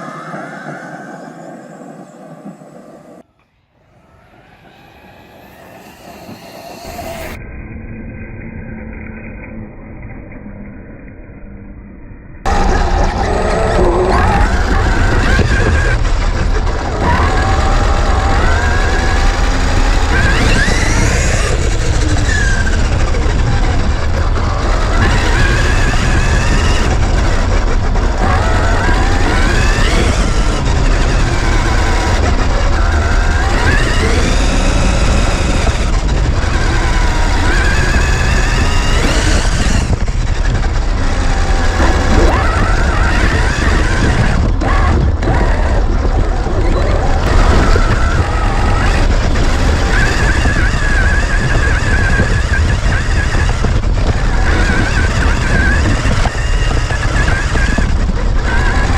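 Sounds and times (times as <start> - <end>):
steady low rumble: 0.0 - 58.9
electric motor whining: 3.8 - 7.4, 12.5 - 58.9.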